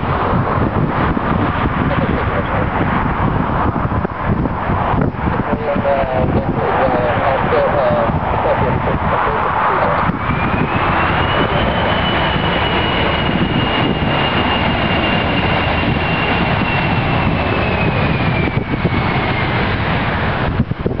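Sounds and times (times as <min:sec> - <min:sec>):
high engine whine: 0:00.0 - 0:21.0
jet engines running: 0:00.0 - 0:21.0.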